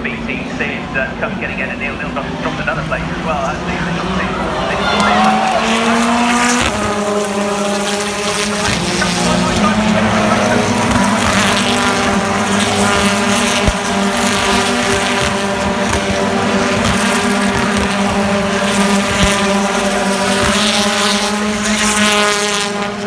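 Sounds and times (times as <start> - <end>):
racing car engines droning: 0.0 - 23.0.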